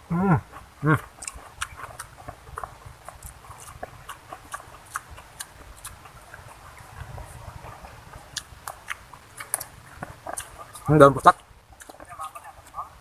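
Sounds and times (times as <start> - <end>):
person chewing: 0.4 - 13.0.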